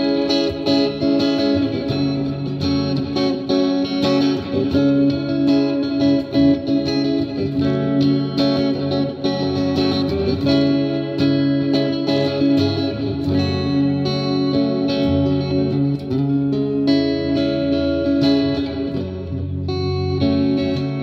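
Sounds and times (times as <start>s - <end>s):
electric guitar through effects pedal: 0.0s - 21.0s.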